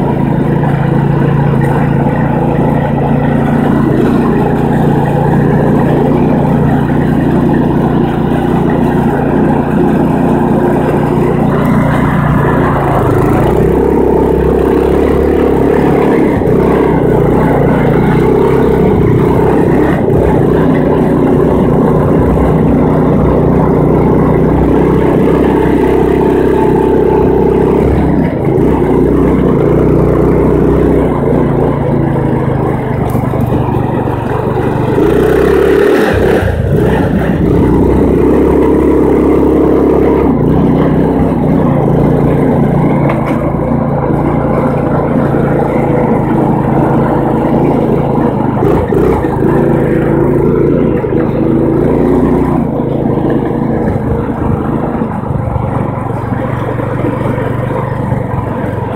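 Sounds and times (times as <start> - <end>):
lawn tractor engine running: 0.0 - 58.9.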